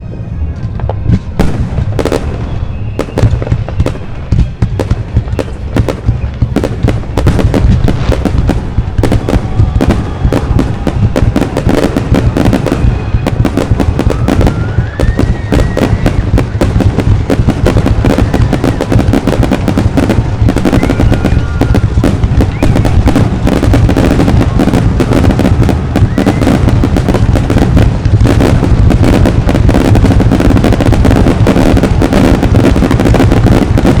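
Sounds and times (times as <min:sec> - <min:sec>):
firework booms and crackling: 0:00.0 - 0:34.0
firework whistling: 0:00.2 - 0:34.0.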